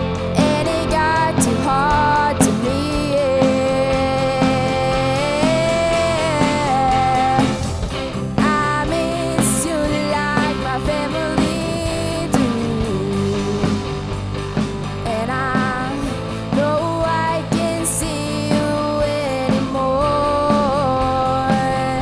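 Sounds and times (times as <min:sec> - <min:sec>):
person singing: 0:00.0 - 0:07.8, 0:08.4 - 0:14.1, 0:15.1 - 0:22.0
rock band playing live: 0:00.0 - 0:22.0.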